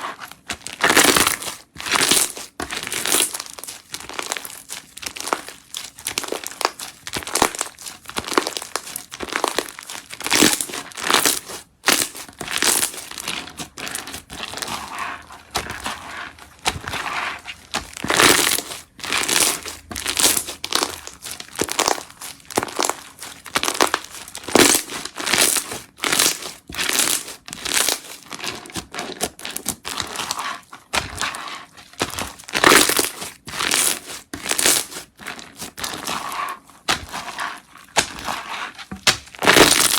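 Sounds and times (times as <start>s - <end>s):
slime squished by hand: 0.6s - 39.9s.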